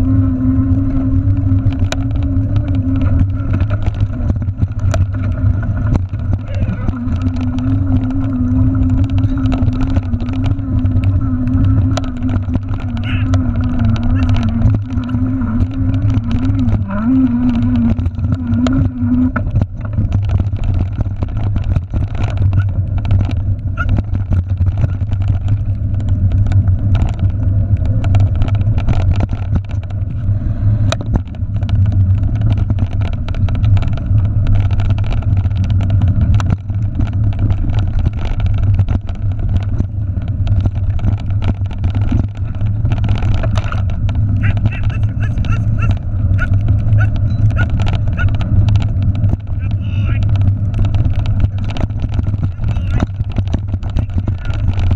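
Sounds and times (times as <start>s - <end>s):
bike rattling over dirt trail: 0.0s - 54.9s
wavering hum: 0.0s - 54.9s
wind buffeting camera: 0.0s - 54.9s.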